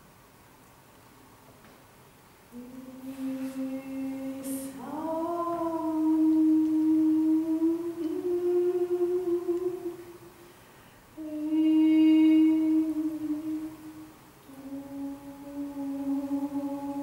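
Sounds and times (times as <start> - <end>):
soprano holding long soft notes: 2.5 - 17.0.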